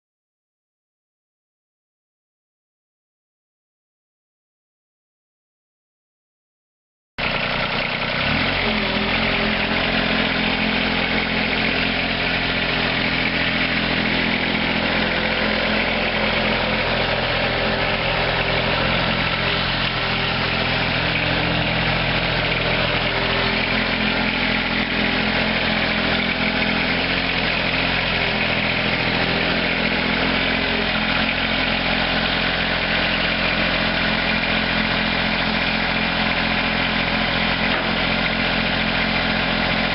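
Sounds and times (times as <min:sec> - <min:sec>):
engine idling: 0:07.2 - 0:39.9.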